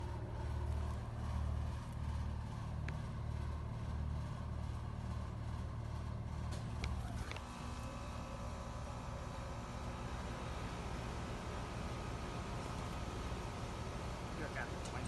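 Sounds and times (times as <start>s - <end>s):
heat pump low rumble: 0.0s - 15.0s
heat pump tonal hum: 0.0s - 15.0s.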